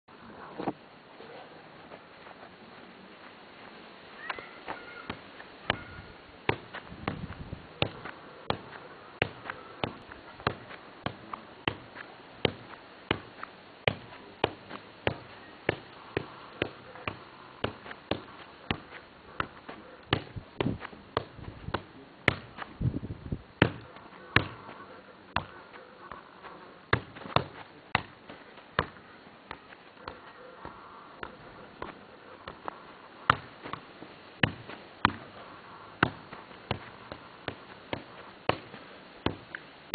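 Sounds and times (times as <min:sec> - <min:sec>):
football thuds: 0:05.1 - 0:24.8, 0:25.4 - 0:25.7, 0:26.4 - 0:39.6.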